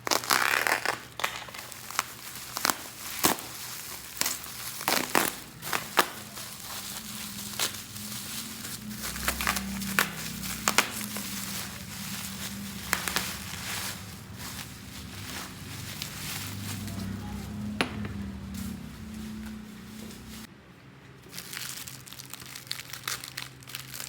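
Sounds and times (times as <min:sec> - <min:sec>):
plastic packaging crinkling: 0:00.0 - 0:20.5, 0:21.2 - 0:24.0.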